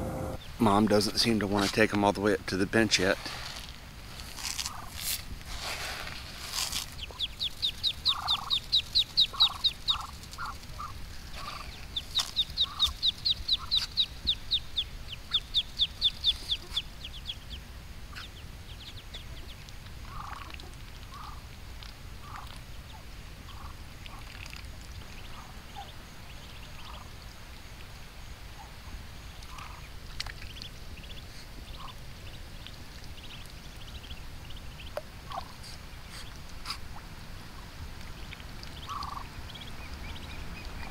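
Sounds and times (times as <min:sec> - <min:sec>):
ducklings peeping: 0:00.0 - 0:03.4, 0:04.1 - 0:05.1, 0:05.9 - 0:40.9.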